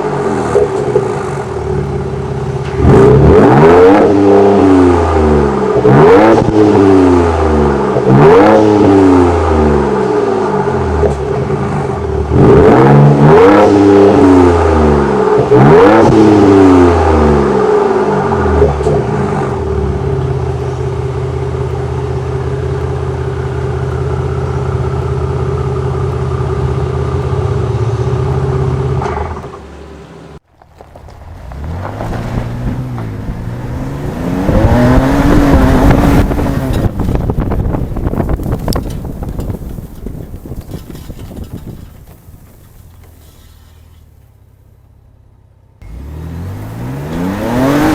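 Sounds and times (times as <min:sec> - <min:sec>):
engine revving: 0:00.0 - 0:30.4, 0:31.2 - 0:39.2, 0:45.8 - 0:47.9.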